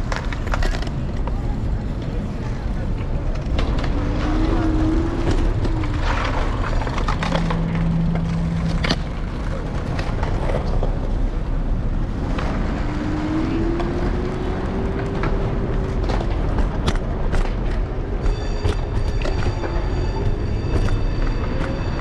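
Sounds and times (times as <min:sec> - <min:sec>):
city street traffic: 0:00.0 - 0:22.0
wind and road rumble: 0:00.0 - 0:22.0.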